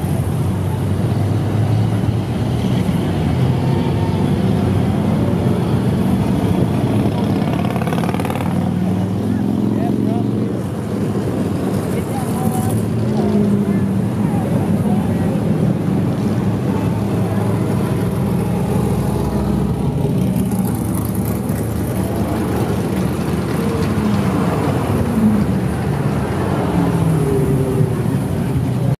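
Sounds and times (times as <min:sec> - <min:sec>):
cars passing slowly: 0:00.0 - 0:29.0.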